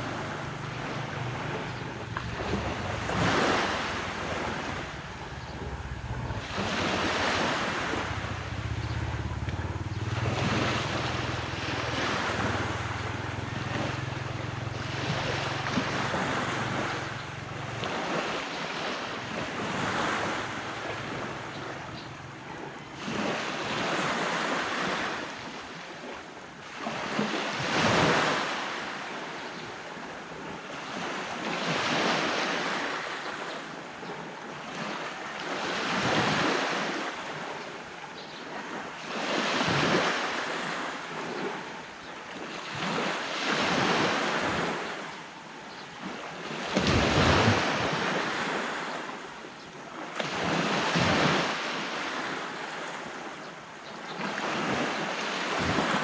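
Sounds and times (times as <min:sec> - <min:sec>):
ocean waves breaking: 0:00.0 - 0:56.0
wind: 0:00.0 - 0:56.0.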